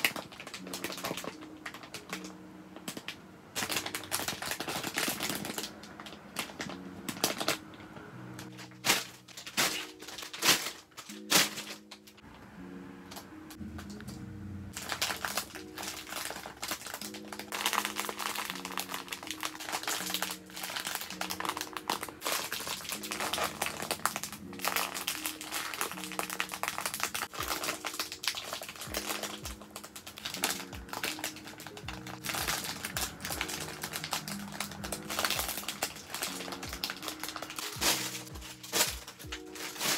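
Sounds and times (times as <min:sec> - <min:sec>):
plastic bags crinkling: 0:00.0 - 0:12.2, 0:14.7 - 0:39.9
soft background music: 0:00.0 - 0:39.9.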